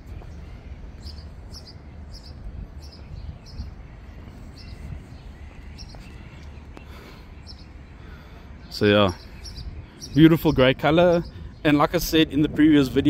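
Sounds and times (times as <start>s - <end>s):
bird chirping: 0.0s - 11.9s
low outdoor rumble: 0.0s - 13.0s.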